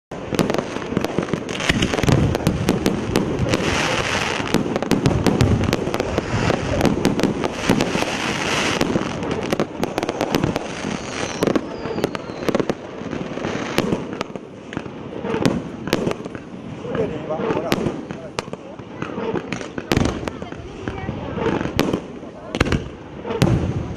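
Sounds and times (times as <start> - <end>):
firework battery firing: 0.1 - 23.9.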